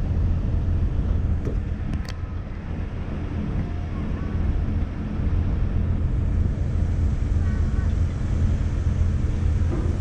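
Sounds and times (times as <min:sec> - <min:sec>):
ferry engine rumbling: 0:00.0 - 0:10.0.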